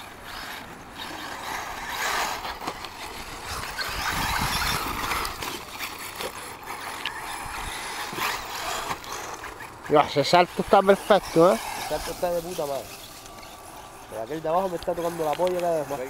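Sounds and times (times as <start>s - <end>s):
rc car motors: 0.0s - 16.0s
tyres on loose dirt: 0.0s - 16.0s.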